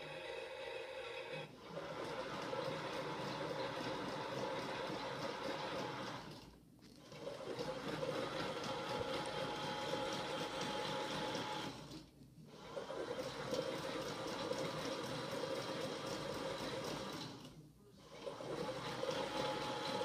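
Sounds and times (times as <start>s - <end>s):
toy washing machine whirring: 0.0s - 20.0s.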